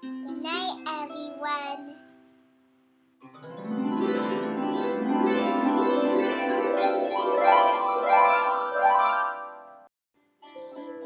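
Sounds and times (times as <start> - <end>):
plucked harp music: 0.0 - 2.2, 3.2 - 11.0.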